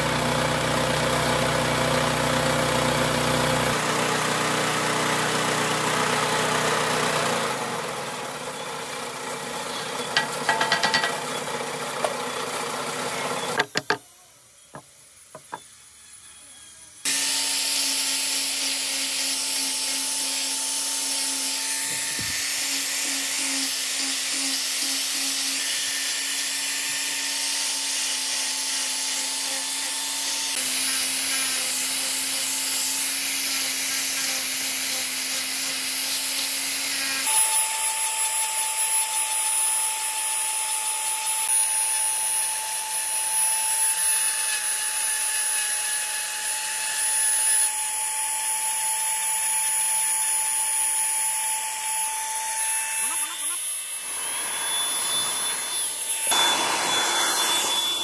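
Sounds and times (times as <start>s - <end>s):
power tool running against wood: 0.0s - 14.0s, 14.7s - 58.0s.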